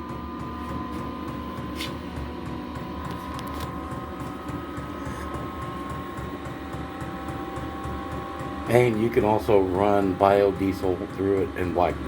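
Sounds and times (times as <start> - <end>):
heater fan whine: 0.0 - 12.0.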